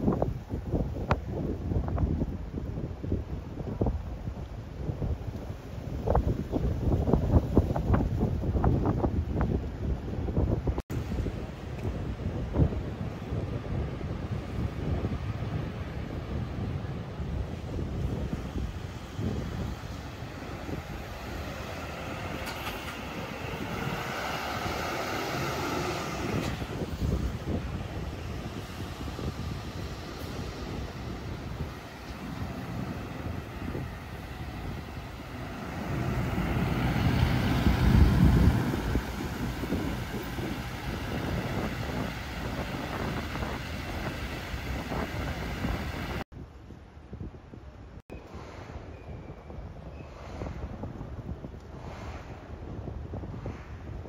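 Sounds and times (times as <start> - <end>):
bus diesel engine rumble: 0.0 - 46.3.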